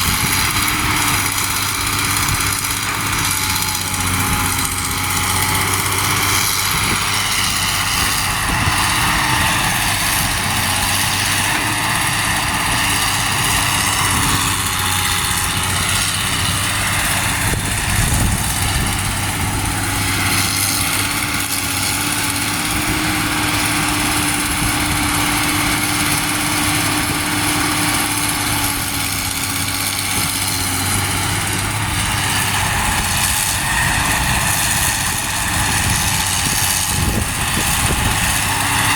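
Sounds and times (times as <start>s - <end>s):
truck engines humming: 0.0s - 38.9s.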